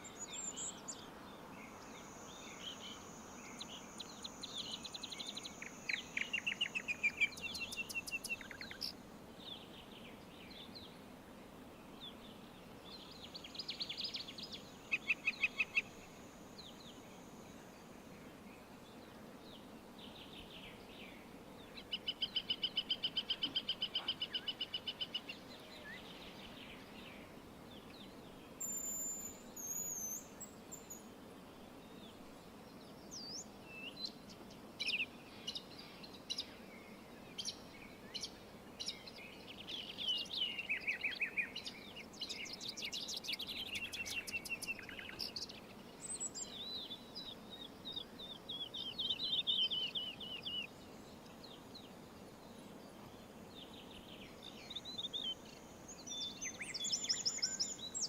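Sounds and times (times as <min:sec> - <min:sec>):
faint steady hiss: 0:00.0 - 0:58.0
songbirds chirping and trilling: 0:00.0 - 0:58.0.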